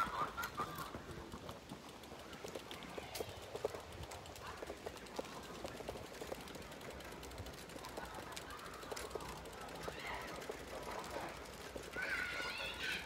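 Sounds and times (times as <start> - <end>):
footsteps on tarmac: 0.0 - 13.0.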